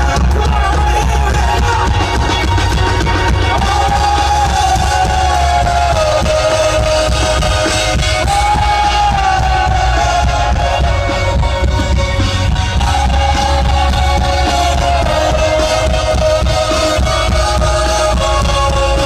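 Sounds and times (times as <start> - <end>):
electric guitar: 0.0 - 19.0
heavy bass: 0.0 - 19.0
person singing: 3.2 - 19.0.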